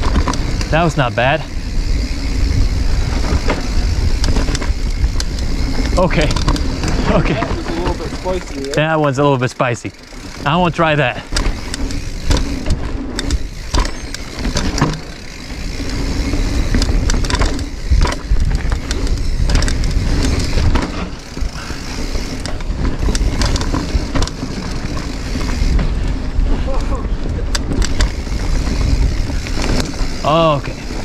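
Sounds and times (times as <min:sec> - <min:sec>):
bike frame knocking and rattling: 0:00.0 - 0:31.0
rumble of wind and tyres: 0:00.0 - 0:31.0.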